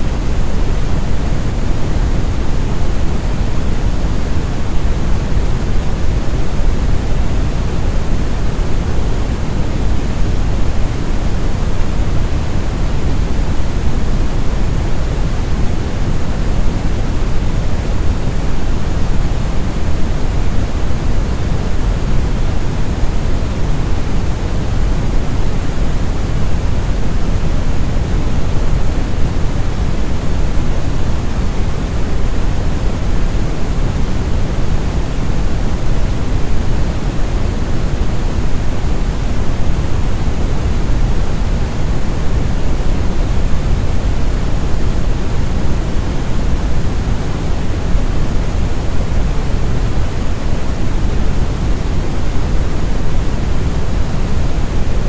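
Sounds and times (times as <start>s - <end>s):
deep rumbling brown noise: 0.0s - 55.0s.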